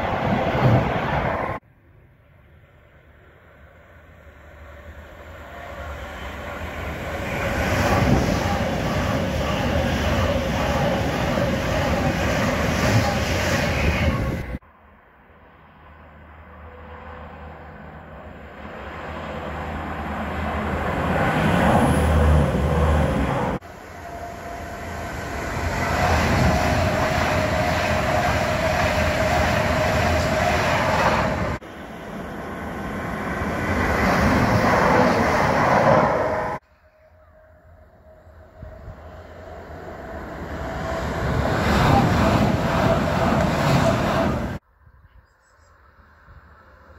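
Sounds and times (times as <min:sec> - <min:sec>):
diesel train passing: 0:00.0 - 0:44.6
passenger train passing: 0:00.0 - 0:44.6
electric train whine: 0:02.2 - 0:44.6.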